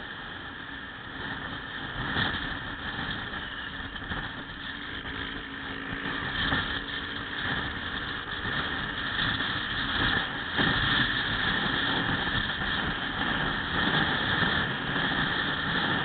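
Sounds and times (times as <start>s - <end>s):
motorcycle engine: 0.0s - 16.0s
passing motorcycles: 0.0s - 16.0s
wind rush on microphone: 0.0s - 16.0s.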